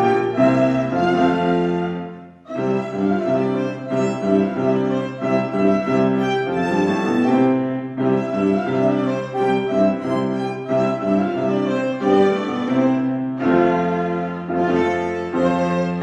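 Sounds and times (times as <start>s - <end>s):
bowed string accompaniment: 0.0s - 16.0s
violin melody: 0.0s - 16.0s.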